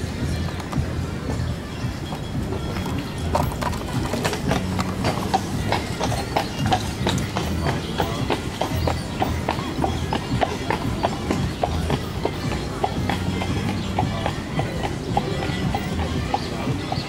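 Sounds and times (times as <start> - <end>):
hooves clip-clopping on pavement: 0.0 - 17.0.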